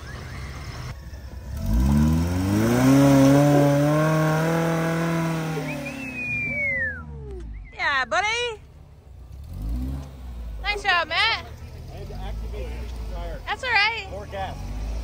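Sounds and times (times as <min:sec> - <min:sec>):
vehicle engine accelerating: 0:00.0 - 0:07.8, 0:08.6 - 0:15.0.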